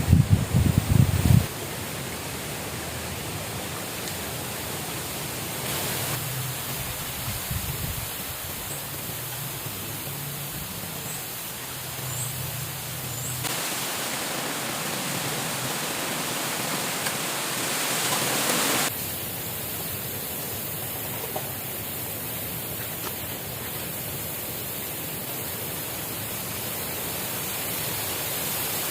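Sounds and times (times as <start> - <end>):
rushing water: 0.0 - 28.9.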